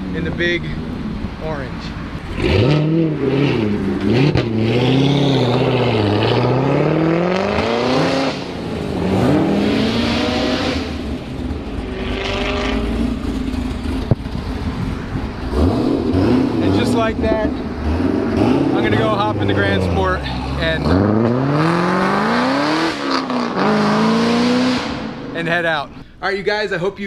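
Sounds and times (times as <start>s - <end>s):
car engine revving: 0.0s - 25.8s.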